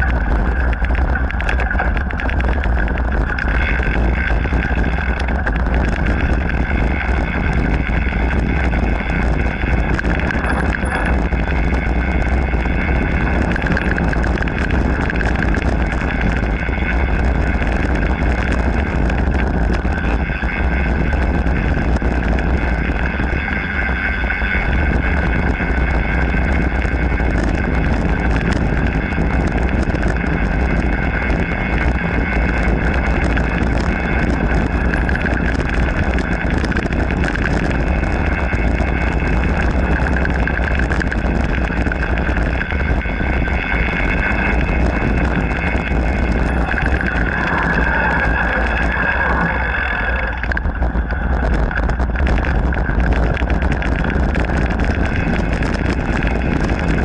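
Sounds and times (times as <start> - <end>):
bike rattling: 0.0 - 57.0
steady high hum: 0.0 - 57.0
wind buffeting microphone: 0.0 - 57.0.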